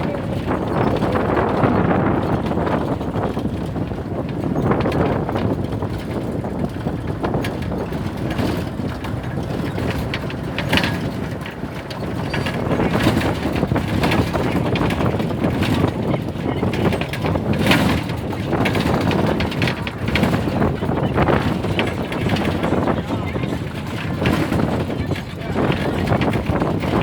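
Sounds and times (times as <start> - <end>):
bus engine and road noise: 0.0 - 27.0
rattles and knocks: 0.0 - 27.0.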